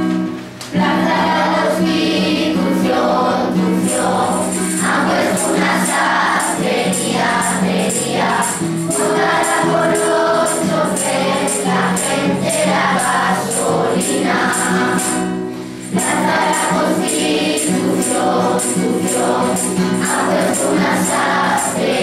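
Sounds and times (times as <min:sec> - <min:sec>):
guitar chords: 0:00.0 - 0:22.0
children singing: 0:00.7 - 0:22.0
tambourine jingling: 0:01.1 - 0:22.0.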